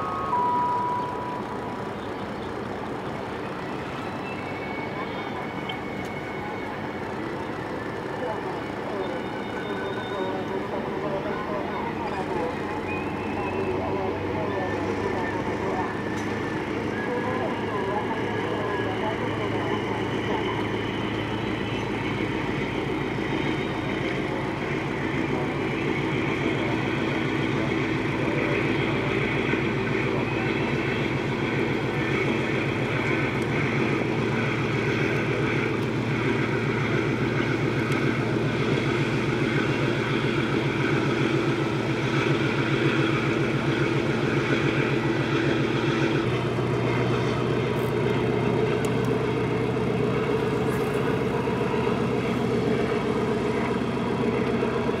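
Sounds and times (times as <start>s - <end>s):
ship diesel engines humming: 0.0s - 55.0s.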